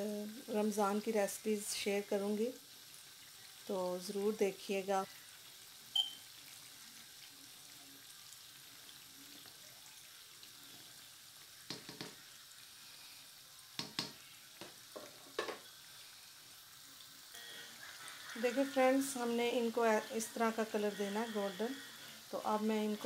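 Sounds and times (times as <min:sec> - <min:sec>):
fritters sizzling in oil: 0:00.0 - 0:23.0.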